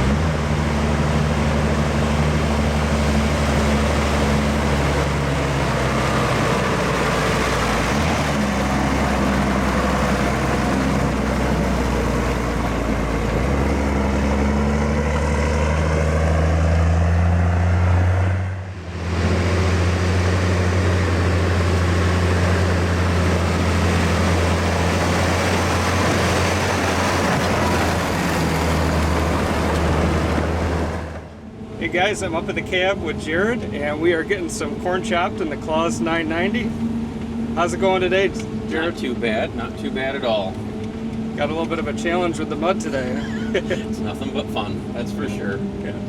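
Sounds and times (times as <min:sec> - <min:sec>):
diesel farm machinery droning: 0:00.0 - 0:46.0.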